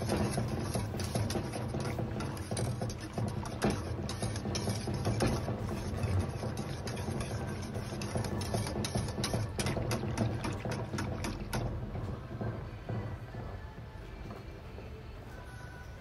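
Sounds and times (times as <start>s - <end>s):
whisk scraping metal pot: 0.0s - 13.2s.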